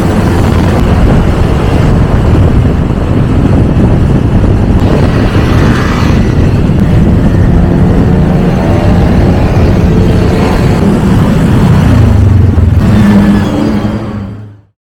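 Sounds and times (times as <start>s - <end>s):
motorcycle engine running: 0.0s - 13.0s
wind and road noise rumble: 0.0s - 14.8s.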